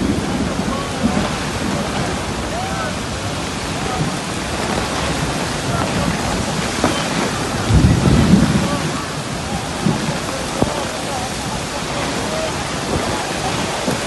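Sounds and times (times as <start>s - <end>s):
deep rumble: 0.0s - 14.0s
heavy rain pouring: 0.0s - 14.0s.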